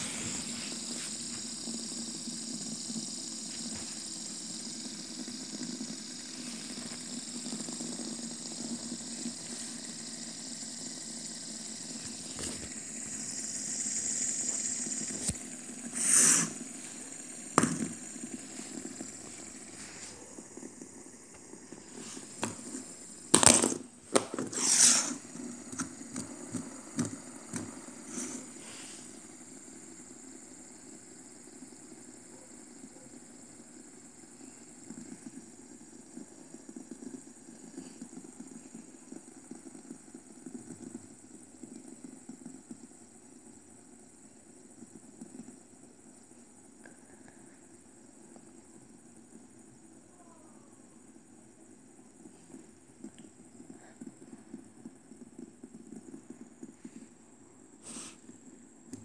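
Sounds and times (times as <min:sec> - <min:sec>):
fidget spinner whirring: 0:00.0 - 0:57.2.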